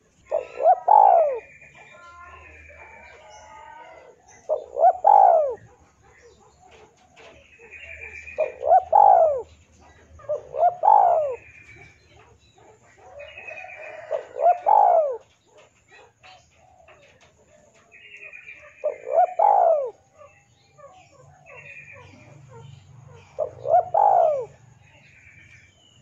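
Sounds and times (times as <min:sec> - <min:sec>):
dove cooing: 0:00.0 - 0:25.2.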